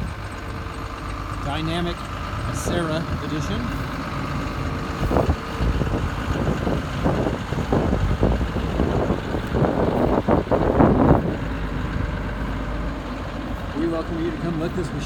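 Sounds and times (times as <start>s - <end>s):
excavator diesel engine running: 0.0s - 15.0s
wind buffeting microphone: 0.0s - 15.0s.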